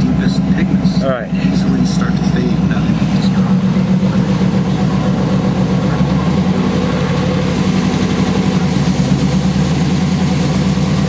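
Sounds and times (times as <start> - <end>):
car engine running steadily: 0.0 - 11.0.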